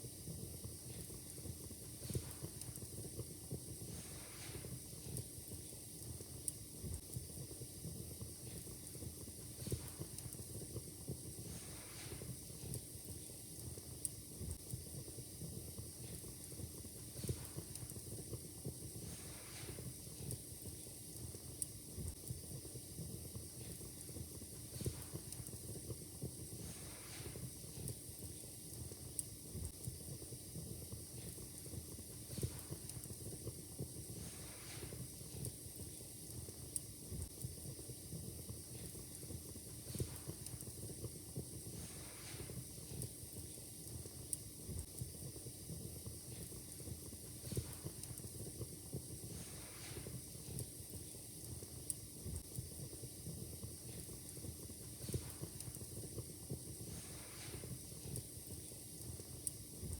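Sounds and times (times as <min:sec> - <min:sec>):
fire crackling and popping: 0:00.0 - 0:59.9
soft fire hiss: 0:00.0 - 0:59.9.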